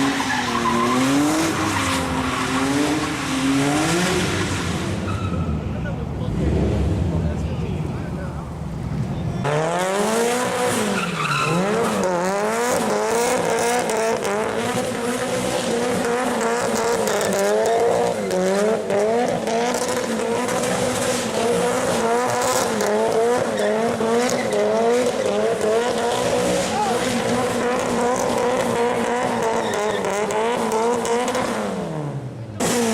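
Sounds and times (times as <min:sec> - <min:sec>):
car engine at high revs: 0:00.0 - 0:32.9.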